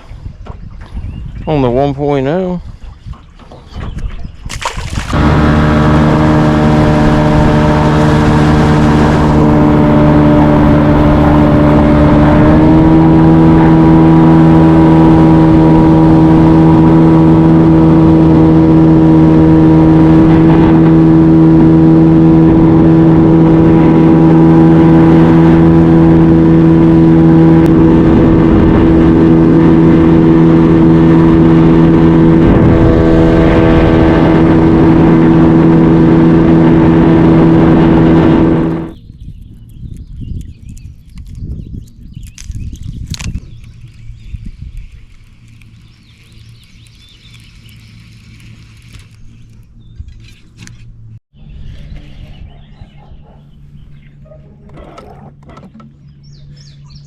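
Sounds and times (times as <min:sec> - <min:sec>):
outboard motor running: 0:03.0 - 0:39.0, 0:42.3 - 0:57.0.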